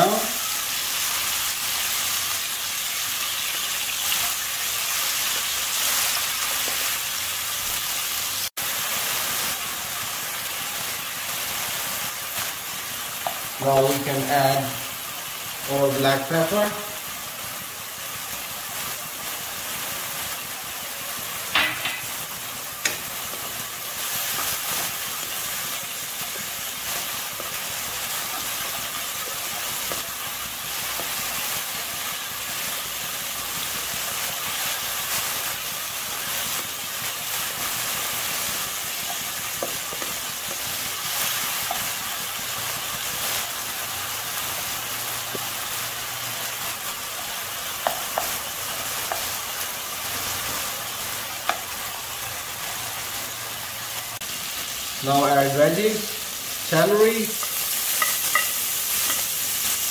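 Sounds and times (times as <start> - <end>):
chicken sizzling in hot oil: 0.0 - 59.9.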